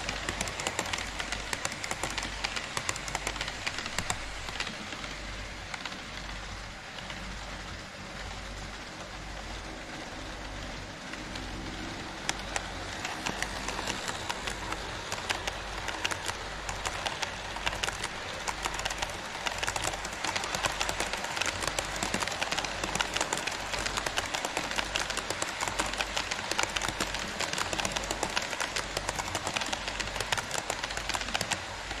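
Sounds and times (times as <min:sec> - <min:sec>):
wheels clicking over rail joints: 0:00.0 - 0:07.9, 0:08.6 - 0:32.0
model train wheels rolling hiss: 0:00.0 - 0:32.0.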